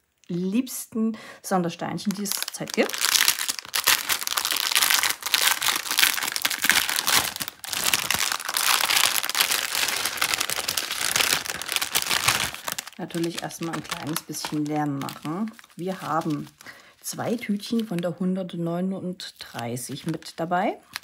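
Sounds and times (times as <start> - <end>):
plastic packaging crinkling: 2.0 - 18.2, 19.2 - 21.0.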